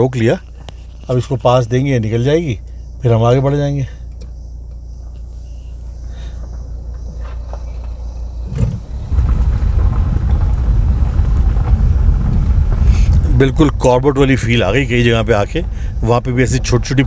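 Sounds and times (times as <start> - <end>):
engine and road rumble: 0.0 - 17.0
engine idling: 0.0 - 17.0.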